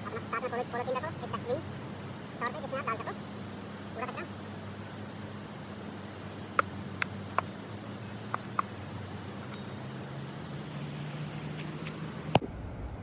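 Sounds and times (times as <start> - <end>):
steady background rush: 0.0 - 12.4.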